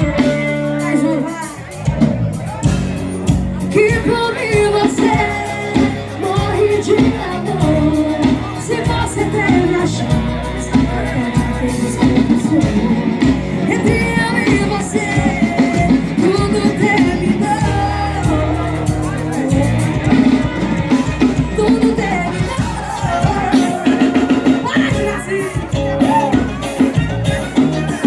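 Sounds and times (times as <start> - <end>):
lead singer singing: 0.0 - 2.1, 3.2 - 28.0
bass and drum beat: 0.0 - 28.0
live band playing: 0.0 - 28.0.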